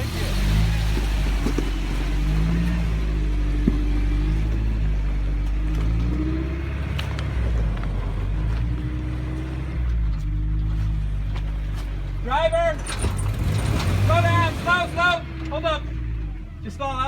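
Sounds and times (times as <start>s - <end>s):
suv engine running at low revs: 0.0s - 17.0s.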